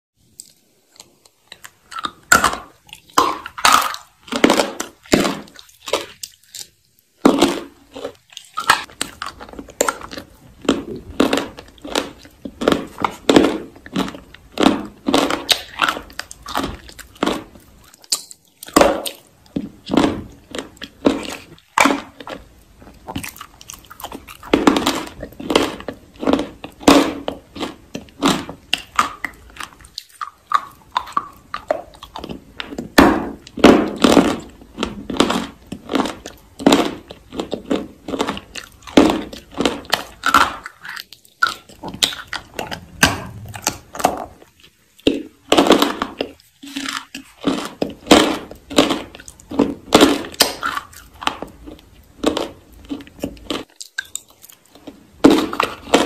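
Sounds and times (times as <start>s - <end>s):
crunchy food chewing: 0.3s - 56.0s.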